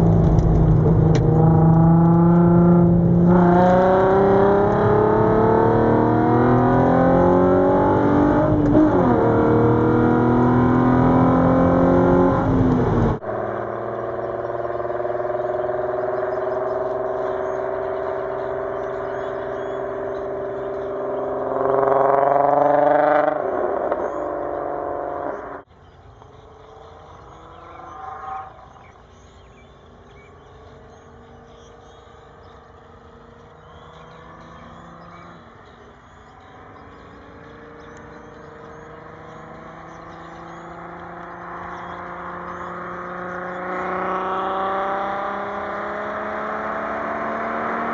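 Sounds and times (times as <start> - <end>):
car engine revving at full throttle: 0.0 - 25.7, 26.4 - 47.9.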